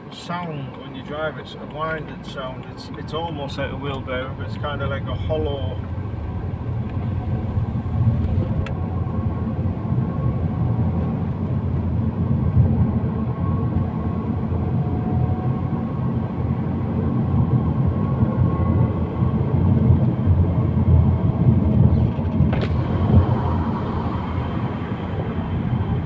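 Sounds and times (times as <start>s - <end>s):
road and drivetrain noise: 0.0s - 26.0s.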